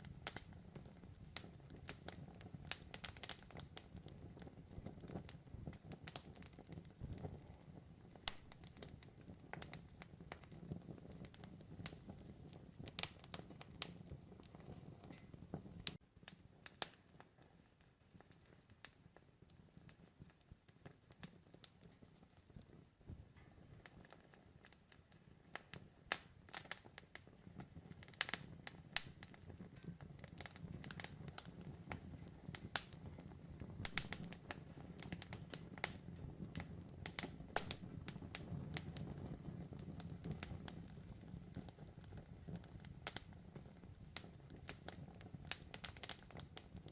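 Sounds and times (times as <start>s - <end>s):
campfire crackling and popping: 0.0s - 46.9s
low rumble of burning wood: 0.0s - 46.9s.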